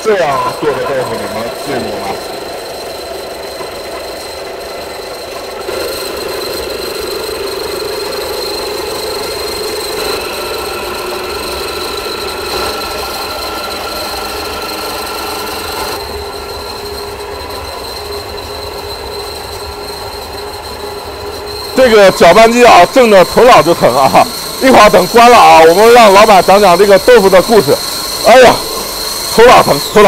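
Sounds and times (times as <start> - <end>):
electric grinding machine whining: 0.0 - 30.0.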